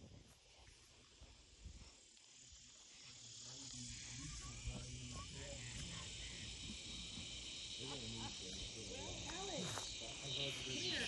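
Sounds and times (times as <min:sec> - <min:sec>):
crickets and insects chirring: 0:00.0 - 0:11.0.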